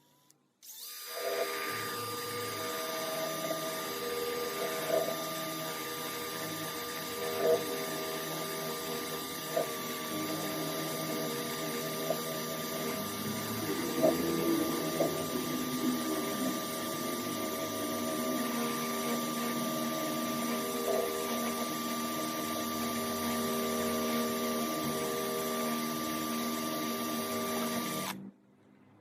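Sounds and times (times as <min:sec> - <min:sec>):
small electric motor humming: 0:00.0 - 0:28.2.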